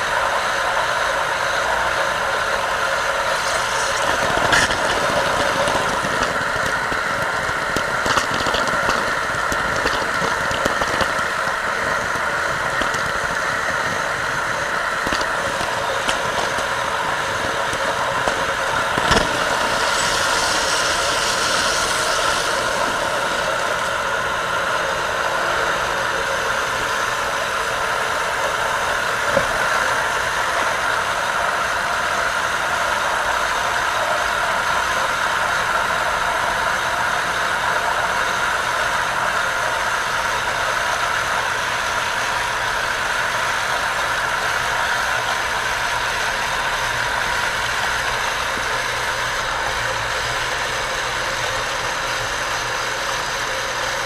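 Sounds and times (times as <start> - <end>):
water pump running: 0.0 - 54.0.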